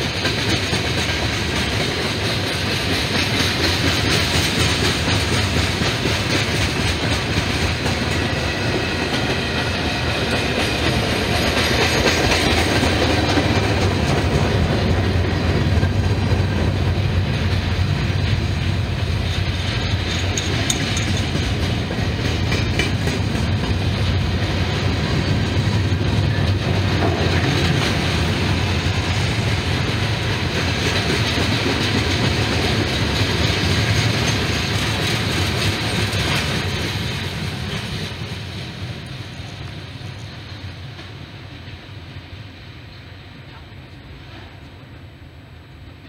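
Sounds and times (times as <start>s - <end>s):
wheels clicking over rail joints: 0.0s - 41.8s
steel wheels rumbling on rail: 0.0s - 46.0s.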